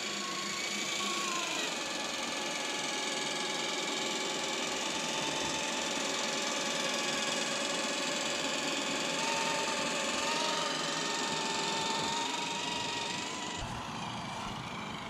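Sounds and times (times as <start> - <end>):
toy car electric motor whining: 0.0 - 15.0.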